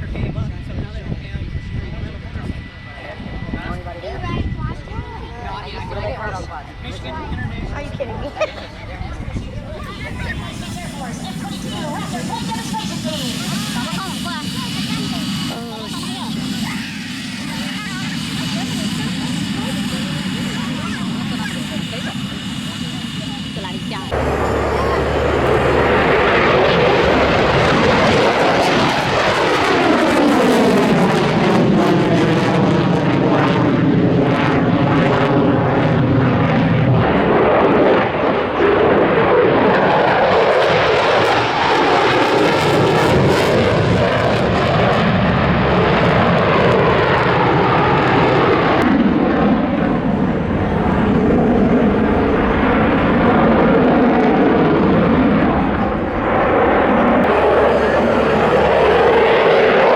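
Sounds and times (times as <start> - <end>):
propeller airplane flying past: 0.0 - 59.9.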